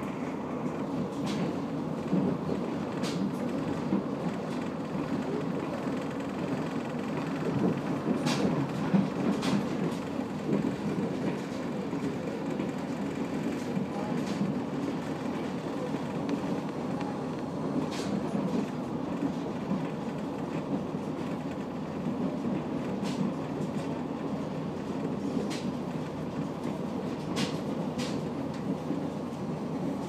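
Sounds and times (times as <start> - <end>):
railcar wheels and engine rumbling: 0.0 - 30.0.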